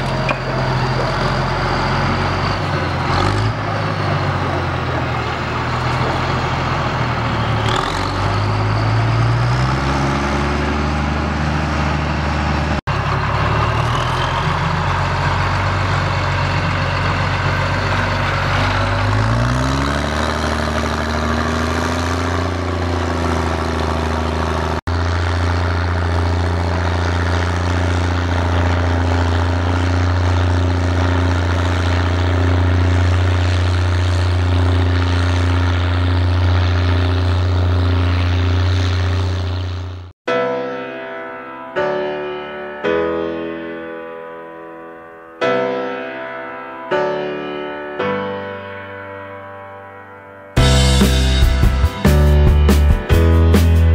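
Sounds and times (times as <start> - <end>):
tractor diesel engine pulling hard: 0.0 - 40.2, 50.6 - 53.9.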